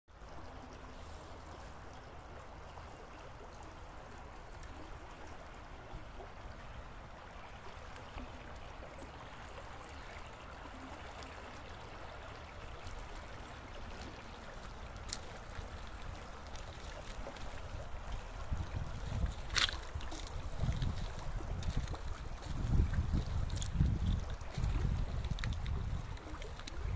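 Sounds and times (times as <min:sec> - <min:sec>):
river flowing over gravel: 0:00.1 - 0:26.9.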